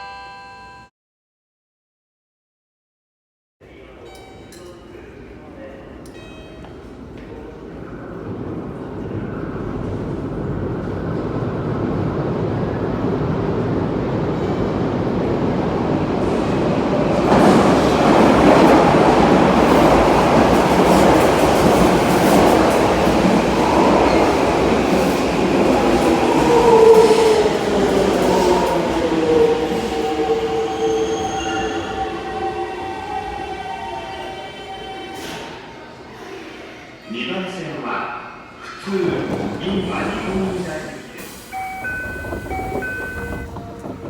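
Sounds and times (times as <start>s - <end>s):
subway train running: 3.6s - 44.0s.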